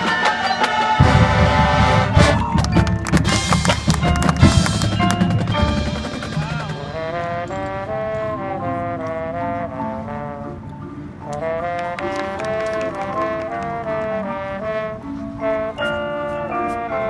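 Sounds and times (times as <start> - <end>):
marching band brass melody: 0.0 - 17.0.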